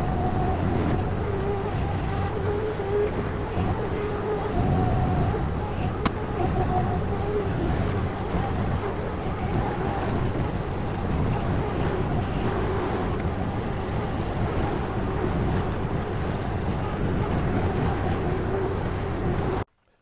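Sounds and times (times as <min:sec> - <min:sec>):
small gasoline engine running: 0:00.0 - 0:19.6.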